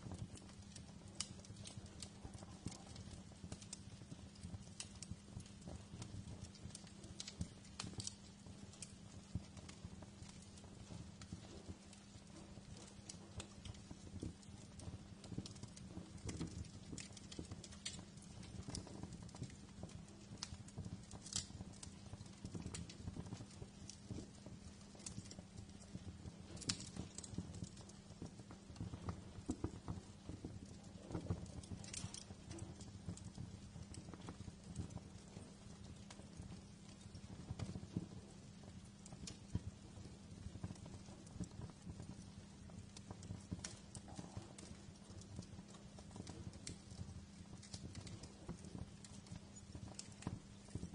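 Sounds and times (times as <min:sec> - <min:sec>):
low rumble of fire: 0:00.0 - 0:50.9
wood fire crackling: 0:00.0 - 0:50.9.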